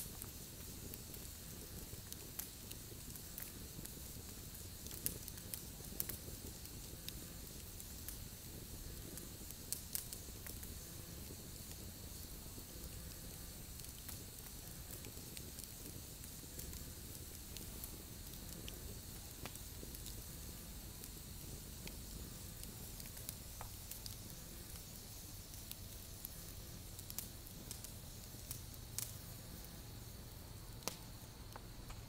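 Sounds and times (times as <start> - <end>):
campfire flames rushing: 0.0 - 32.0
fire crackling: 0.0 - 32.0
sharp fire pops: 0.0 - 32.0.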